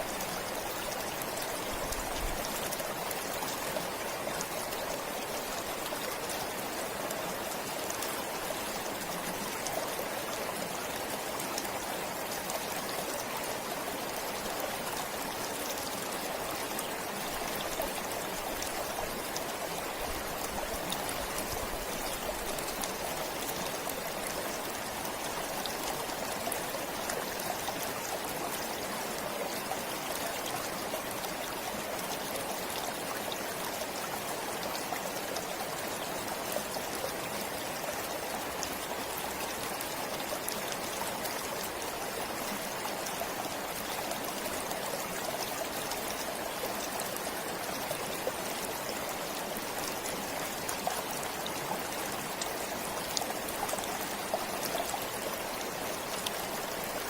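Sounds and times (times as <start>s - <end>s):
small water splashes and drips: 0.0s - 57.0s
stream flowing: 0.0s - 57.0s.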